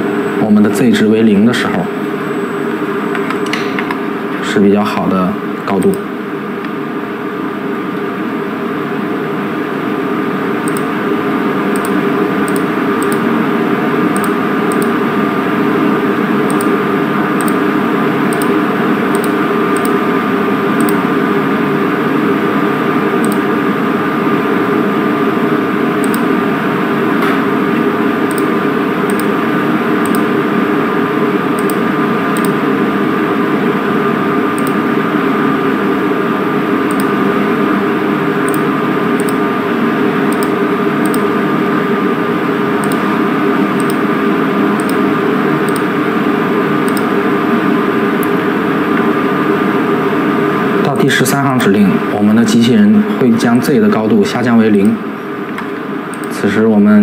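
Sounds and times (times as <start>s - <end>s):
machine hum and whir: 0.0s - 57.0s.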